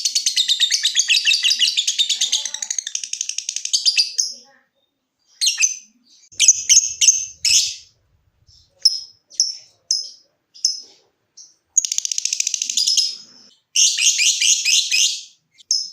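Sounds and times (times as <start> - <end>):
lovebird chirping: 0.0 - 15.9
lovebird chattering calls: 0.2 - 4.4, 5.4 - 7.9, 8.5 - 15.3.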